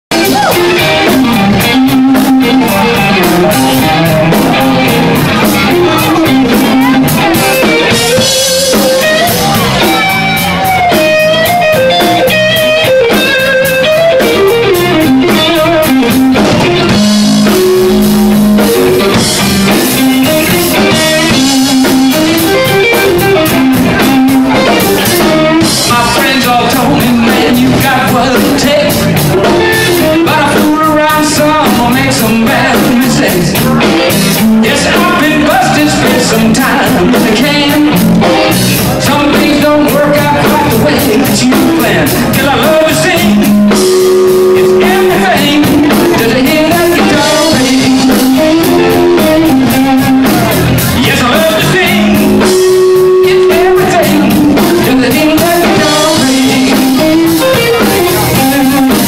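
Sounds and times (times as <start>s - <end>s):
drum kit: 0.0s - 59.0s
electric guitar lines: 0.1s - 59.0s
second guitar or bass: 0.1s - 59.0s.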